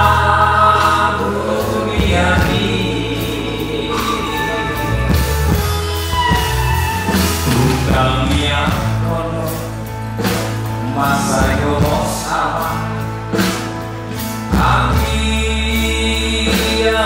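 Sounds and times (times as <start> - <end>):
man singing into a microphone: 0.0 - 5.5, 7.4 - 13.6, 14.4 - 17.0
instrumental accompaniment: 0.0 - 17.0.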